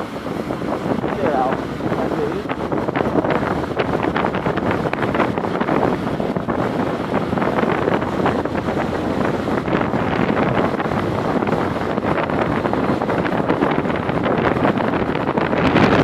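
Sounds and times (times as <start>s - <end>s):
heavy rain: 0.0s - 16.0s
wind buffeting microphone: 0.0s - 16.0s.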